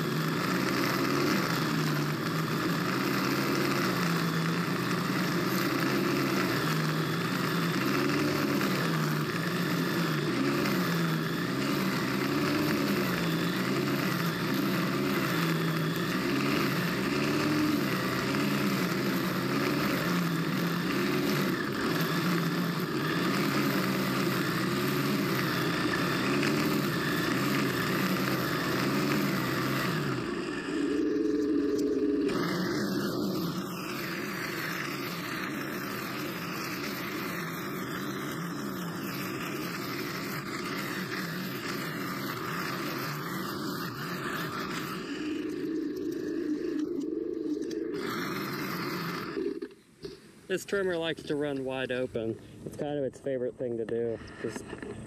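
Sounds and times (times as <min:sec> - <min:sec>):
string trimmer engine running: 0:00.0 - 0:55.0
trimmer line cutting grass: 0:00.0 - 0:55.0.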